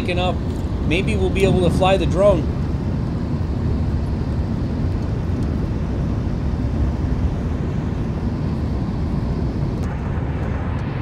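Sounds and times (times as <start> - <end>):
car engine: 0.0 - 11.0
tyre and road noise: 0.0 - 11.0.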